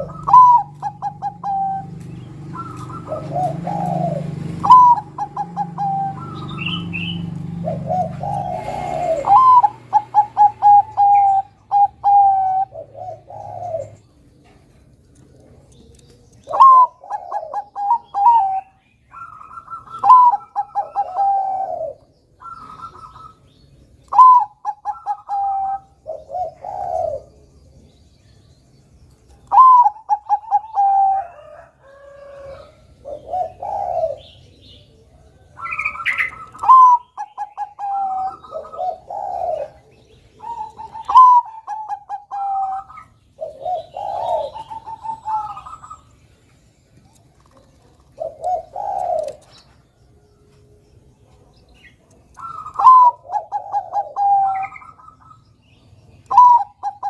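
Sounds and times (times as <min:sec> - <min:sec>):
dove cooing: 0:00.0 - 0:28.0, 0:29.2 - 0:50.4, 0:51.1 - 0:57.0.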